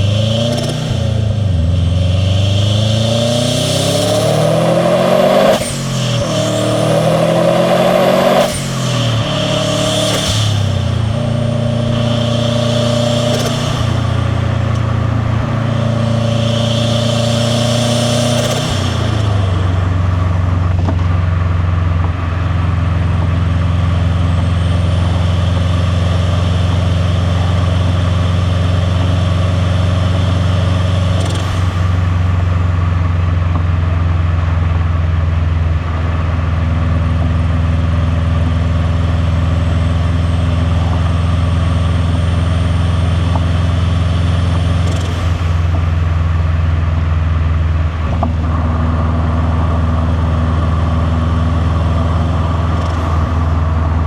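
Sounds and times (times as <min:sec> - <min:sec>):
car engine low drone: 0:00.0 - 0:54.0.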